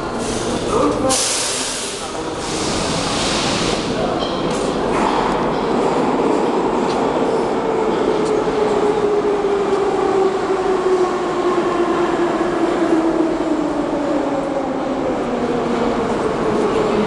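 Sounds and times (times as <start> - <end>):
rumble of train and station: 0.0 - 17.0.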